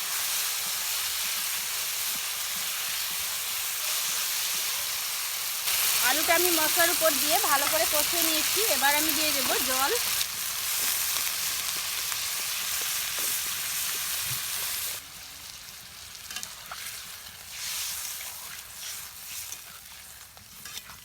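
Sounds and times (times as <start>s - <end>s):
water sizzling in hot pan: 0.0s - 21.0s.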